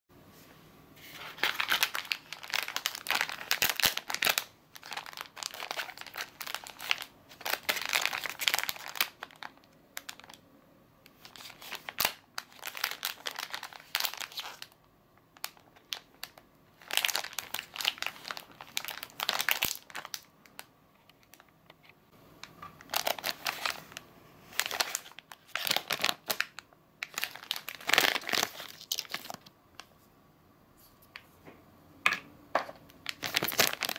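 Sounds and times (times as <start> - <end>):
plastic packaging crinkling: 1.0 - 10.4, 11.1 - 14.8, 15.4 - 29.5, 32.9 - 33.9.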